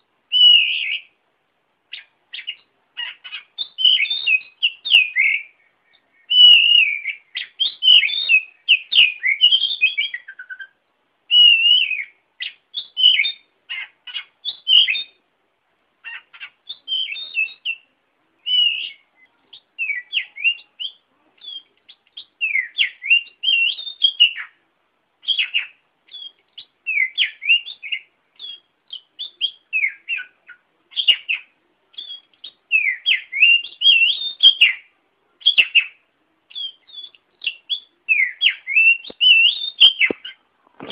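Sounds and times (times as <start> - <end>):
songbird chirping and whistling: 0.0 - 1.2, 1.9 - 15.2, 16.0 - 24.6, 25.2 - 40.9.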